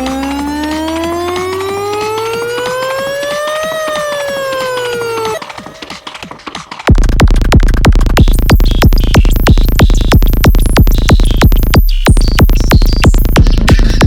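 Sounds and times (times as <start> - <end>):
electronic dance music: 0.0 - 14.0.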